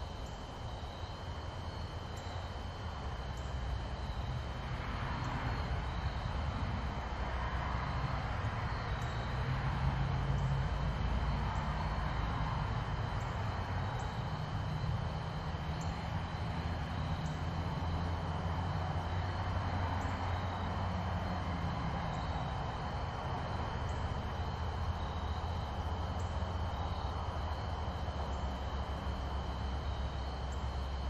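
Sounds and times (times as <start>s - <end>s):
distant engine drone: 0.0s - 31.0s
faint high-pitched whine: 0.0s - 31.0s.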